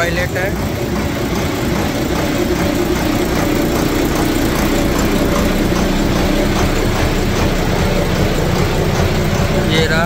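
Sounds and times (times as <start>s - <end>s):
boat engine running loud: 0.0s - 10.0s.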